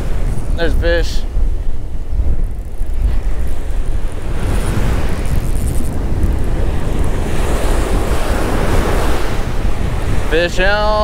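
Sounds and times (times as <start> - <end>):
surf breaking on beach: 0.0 - 11.0
wind rumbling on microphone: 0.0 - 11.0.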